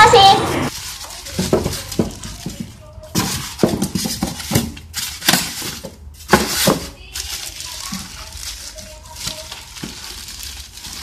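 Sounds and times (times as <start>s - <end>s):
styrofoam and plastic bag rustling: 0.1s - 11.0s.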